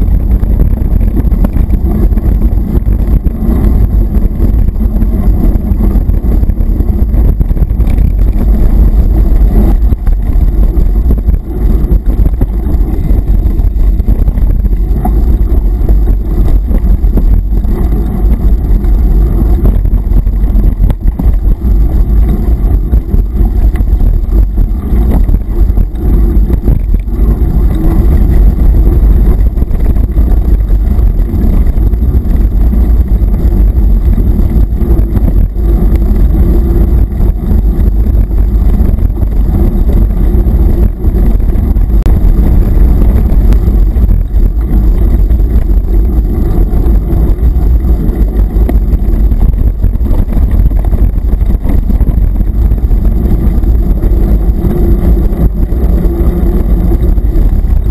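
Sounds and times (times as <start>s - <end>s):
wind and trail vibration rumble: 0.0s - 57.9s.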